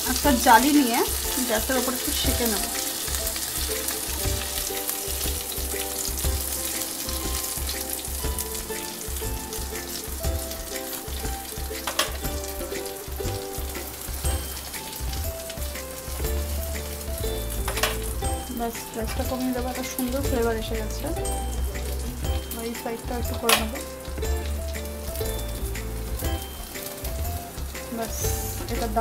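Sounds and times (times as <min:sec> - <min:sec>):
fish sizzling in oil: 0:00.0 - 0:29.0
soft background music: 0:00.0 - 0:29.0.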